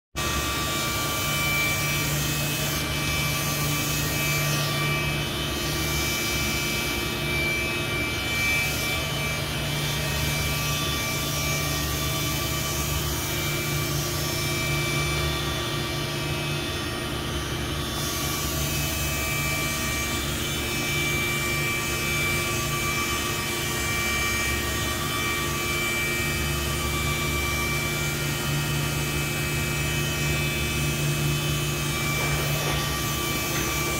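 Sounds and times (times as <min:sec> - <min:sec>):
machine whine with held tones: 0:00.2 - 0:33.9.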